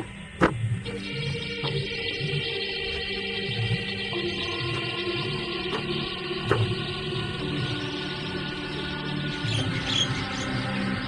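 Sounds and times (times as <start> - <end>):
background music with held tones: 0.0 - 11.0.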